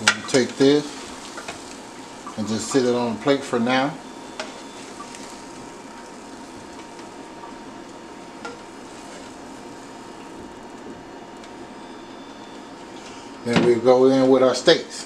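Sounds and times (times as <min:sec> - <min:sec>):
fat sizzling in a frying pan: 0:00.0 - 0:13.2.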